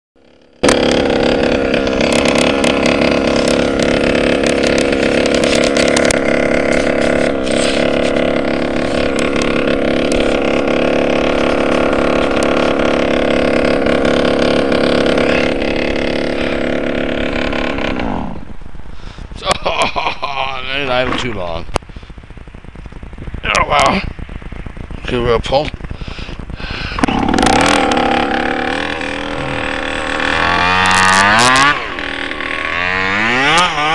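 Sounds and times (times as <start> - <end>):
two-stroke engine running: 0.2 - 33.9.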